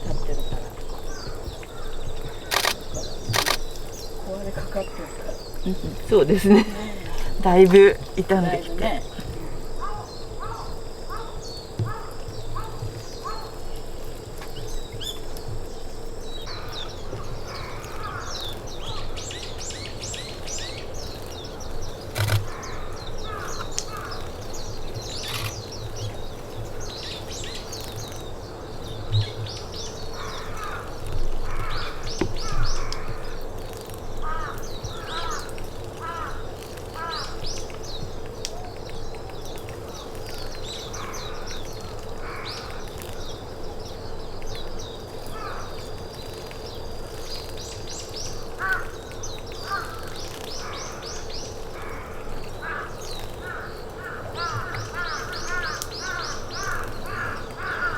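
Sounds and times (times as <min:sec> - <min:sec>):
birds chirping and twittering: 0:00.0 - 0:57.9
lower repeated bird calls: 0:00.0 - 0:57.9.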